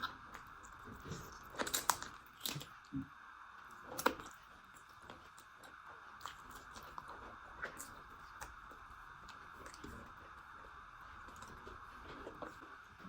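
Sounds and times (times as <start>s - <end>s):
chewing and wet mouth sounds: 0.0s - 13.0s.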